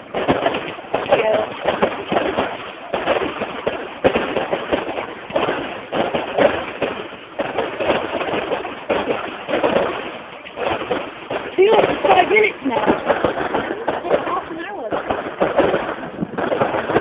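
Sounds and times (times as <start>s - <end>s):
fireworks bangs with rumbling echo: 0.0s - 17.0s.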